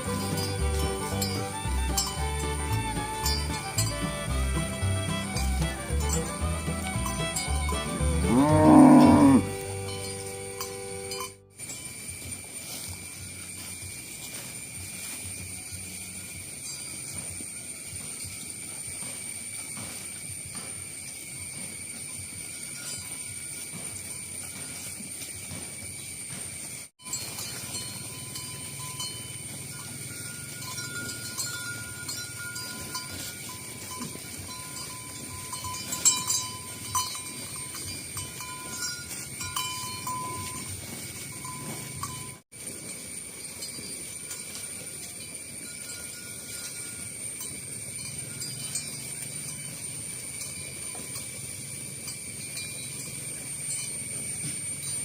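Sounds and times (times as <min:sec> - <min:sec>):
cattle bells clanking: 0:00.0 - 0:55.0
hooves clicking on road: 0:00.0 - 0:55.0.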